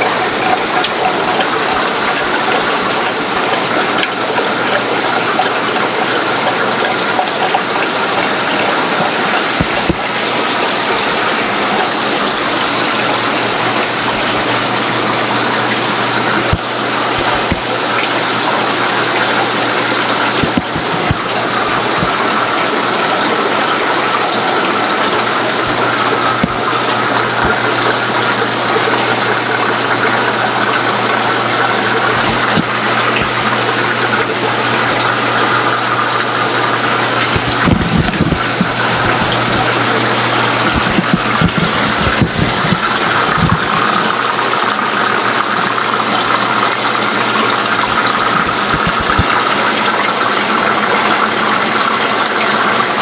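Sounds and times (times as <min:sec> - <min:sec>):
circulating water rushing: 0:00.0 - 0:53.0
low pump hum: 0:00.0 - 0:53.0.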